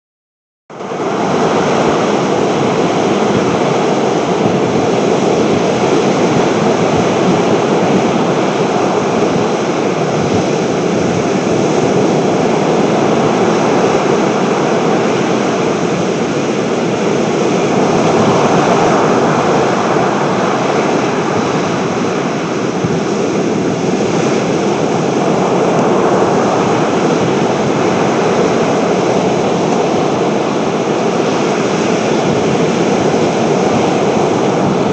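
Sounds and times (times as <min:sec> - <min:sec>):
strong wind: 0:00.7 - 0:34.9
surf rushing: 0:00.7 - 0:34.9.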